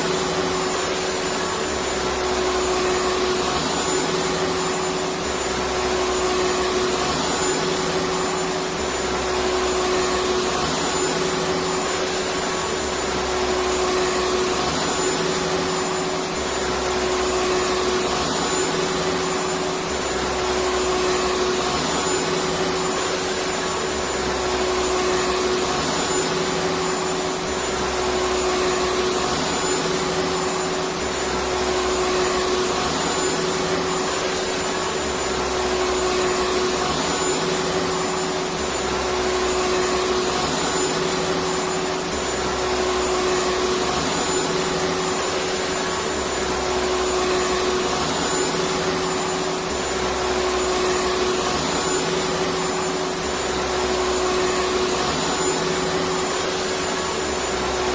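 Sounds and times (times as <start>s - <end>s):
vacuum cleaner motor running: 0.0s - 57.9s.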